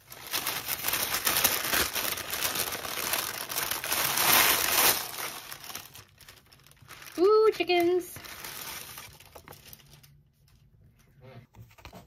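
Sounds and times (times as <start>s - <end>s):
tissue paper crinkling: 0.0s - 10.7s.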